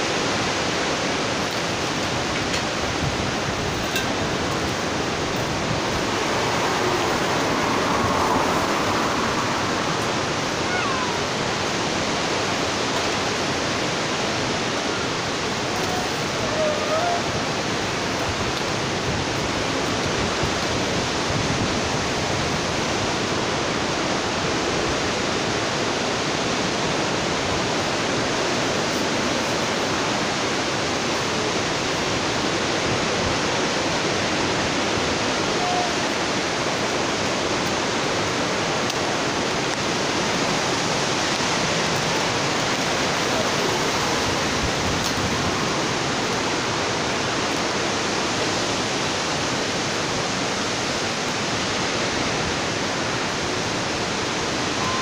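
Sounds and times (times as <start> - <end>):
strong wind roaring: 0.0 - 55.0.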